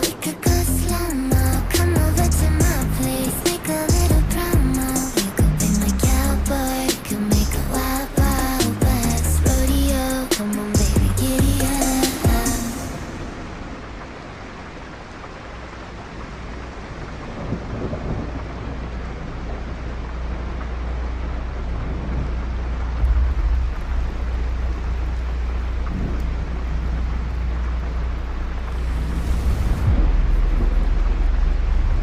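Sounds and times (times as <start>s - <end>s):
deep rumble: 0.0s - 32.0s
steady rushing noise: 0.0s - 32.0s.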